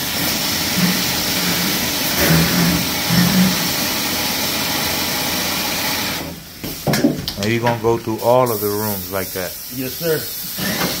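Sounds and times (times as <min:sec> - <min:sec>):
pressure sprayer water hissing: 0:00.0 - 0:07.0, 0:08.1 - 0:11.0.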